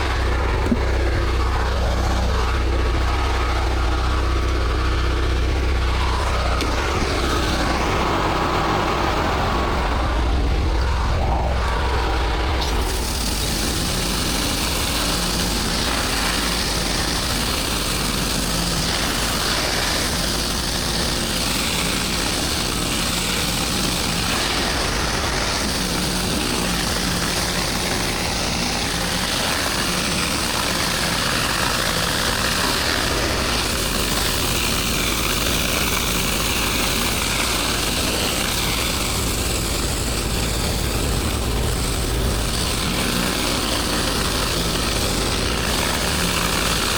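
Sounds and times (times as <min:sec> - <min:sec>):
small motor running: 0:00.0 - 0:46.9.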